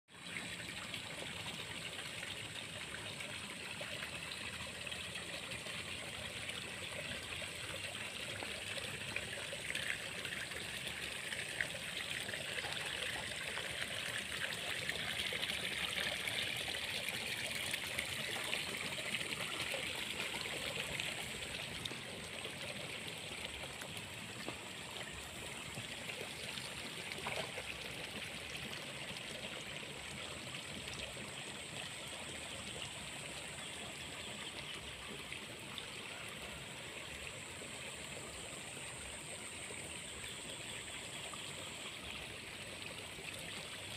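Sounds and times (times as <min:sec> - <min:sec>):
water trickling and running: 0:00.1 - 0:43.9.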